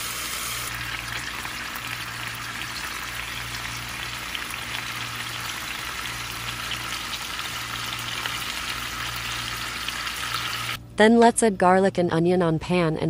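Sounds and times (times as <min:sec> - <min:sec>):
chicken sizzling in a pan: 0:00.0 - 0:10.8.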